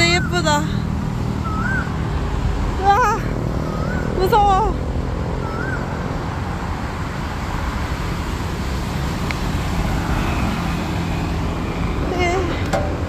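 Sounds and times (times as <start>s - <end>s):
engine rumble: 0.0s - 13.0s
road noise: 0.0s - 13.0s.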